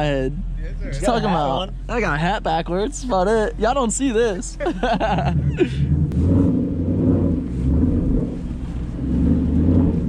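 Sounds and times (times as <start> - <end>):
car engine deep rumble: 0.0 - 10.0.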